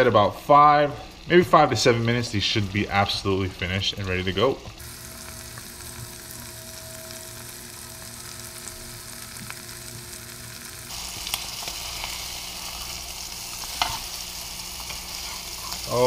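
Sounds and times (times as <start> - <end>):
fish sizzling in a frying pan: 0.0 - 16.0.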